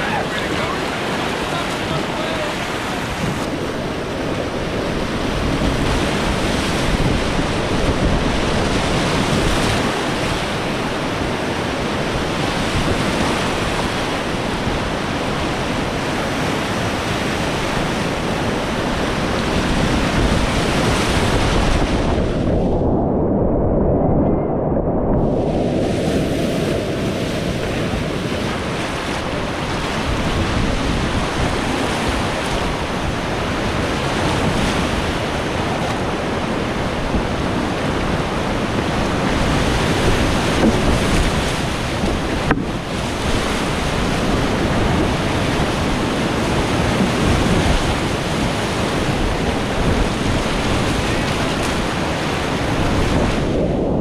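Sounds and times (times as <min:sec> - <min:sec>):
whitewater rapids roaring: 0:00.0 - 0:22.6, 0:25.6 - 0:54.0.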